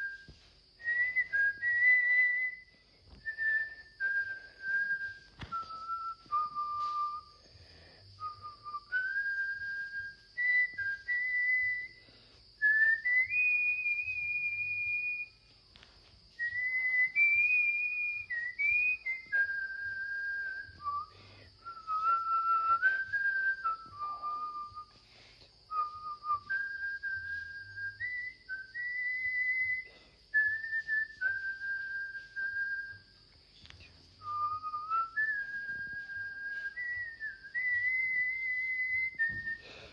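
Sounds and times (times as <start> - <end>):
person whistling a slow tune: 0.0 - 39.9.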